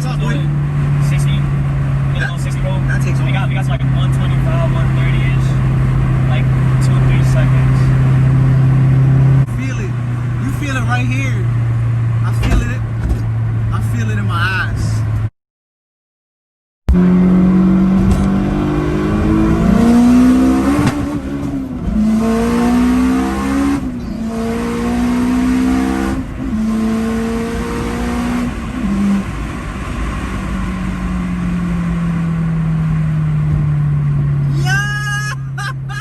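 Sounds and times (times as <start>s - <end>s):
car engine accelerating hard: 0.0s - 15.3s, 16.9s - 34.8s.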